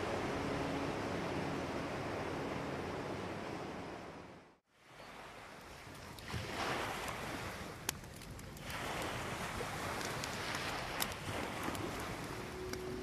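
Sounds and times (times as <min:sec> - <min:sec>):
ocean waves washing on shore: 0:00.0 - 0:13.0.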